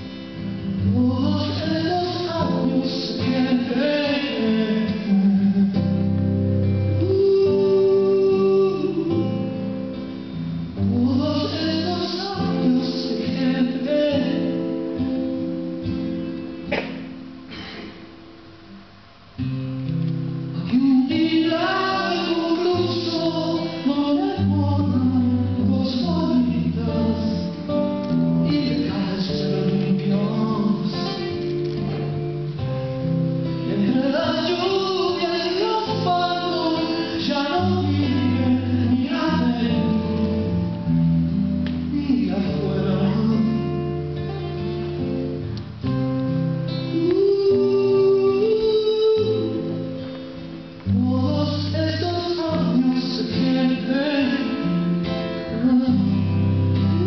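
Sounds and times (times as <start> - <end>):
man singing: 0.0 - 15.8, 20.5 - 45.2, 45.9 - 57.0
acoustic guitar: 0.0 - 57.0.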